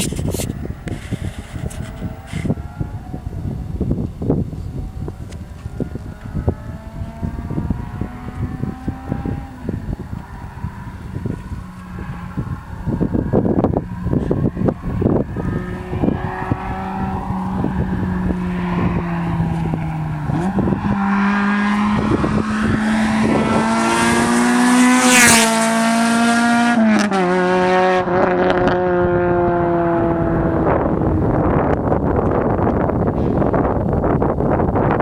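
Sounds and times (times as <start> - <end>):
car engine revving high: 0.9 - 32.1.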